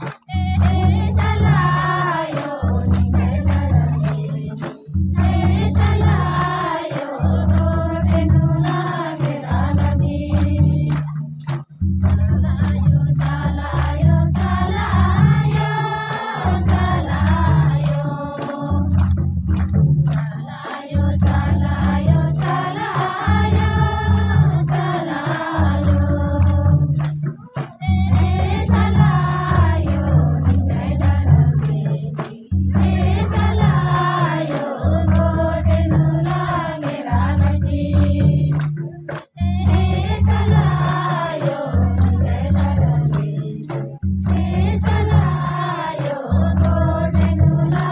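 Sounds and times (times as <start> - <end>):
voices singing: 0.0 - 11.2, 12.1 - 19.2, 20.1 - 47.9
deep drum beat: 0.0 - 47.9
jingling tambourine-like percussion: 0.0 - 47.9.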